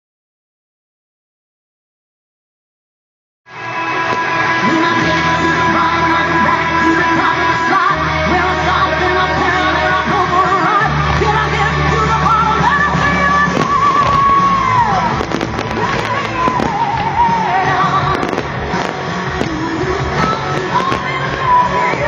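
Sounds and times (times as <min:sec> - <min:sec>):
loud rock music with singing: 0:03.5 - 0:22.0
held bass notes: 0:03.6 - 0:22.0.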